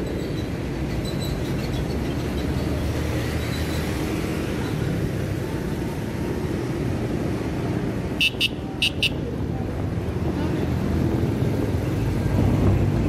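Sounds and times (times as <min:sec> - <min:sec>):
traffic and road noise: 0:00.0 - 0:13.0.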